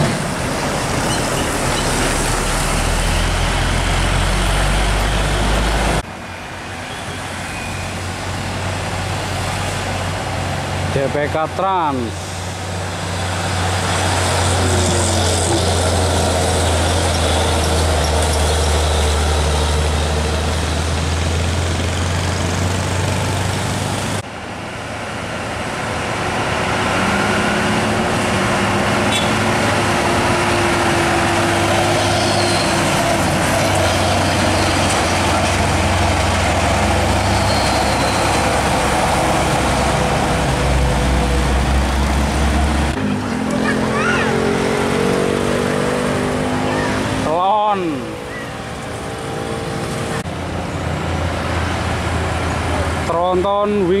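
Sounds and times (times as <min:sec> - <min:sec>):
diesel truck engine drone: 0:00.0 - 0:54.0
tyre and road noise: 0:00.0 - 0:54.0.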